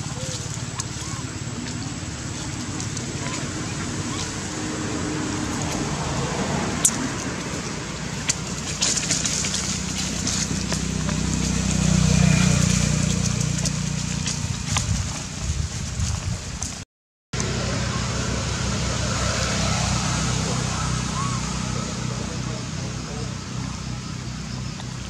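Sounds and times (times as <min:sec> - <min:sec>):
motor vehicle engine hum: 0:00.0 - 0:25.0.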